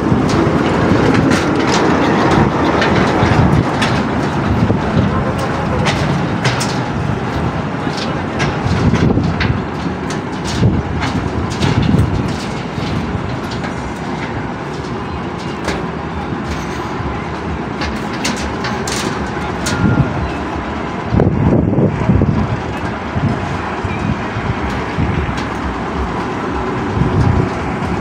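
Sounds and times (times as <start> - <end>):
construction machinery running: 0.0 - 28.0
loud rumble: 0.0 - 28.0
metallic clicks and clanks: 0.0 - 28.0.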